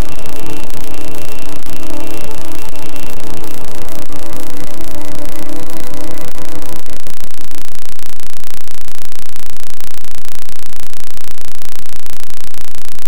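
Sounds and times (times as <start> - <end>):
harsh fluttering static noise: 0.0 - 13.0.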